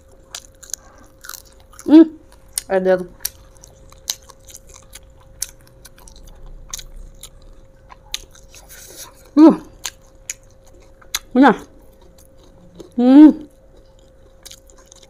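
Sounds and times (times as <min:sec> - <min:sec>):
crunchy chewing: 0:00.0 - 0:15.0
faint steady hum: 0:00.0 - 0:15.0.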